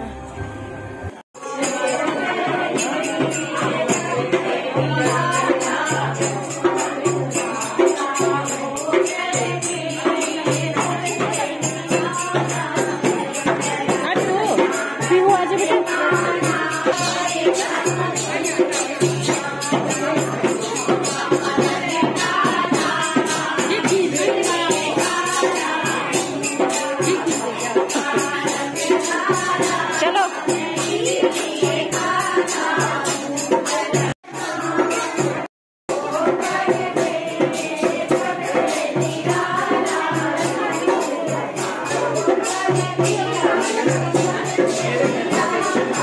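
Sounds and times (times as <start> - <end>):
percussion accompaniment: 0.0 - 46.0
group singing devotional song: 1.4 - 46.0.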